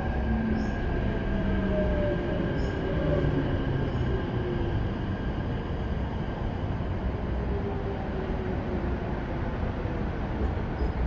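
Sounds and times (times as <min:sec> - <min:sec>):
rumble of wheels and track: 0:00.0 - 0:11.0.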